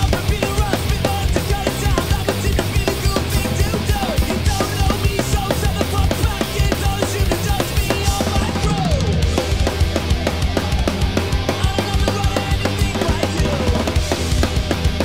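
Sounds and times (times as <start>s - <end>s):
drum kit played fast: 0.0s - 15.0s
rock backing track with vocals: 0.0s - 15.0s.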